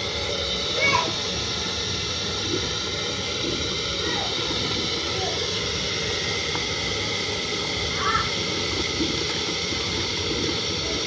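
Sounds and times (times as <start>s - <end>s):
burner hissing roar: 0.0s - 11.0s.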